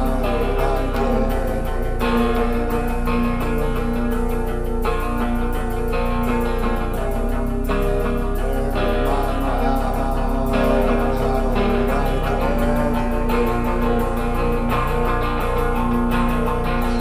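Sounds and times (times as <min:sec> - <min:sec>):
guitar-led band music: 0:00.0 - 0:17.0.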